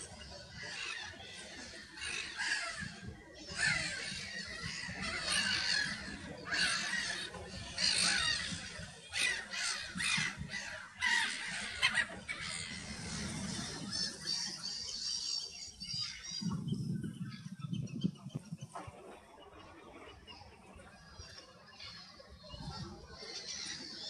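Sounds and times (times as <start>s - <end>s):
flock of birds calling: 0.0s - 24.0s.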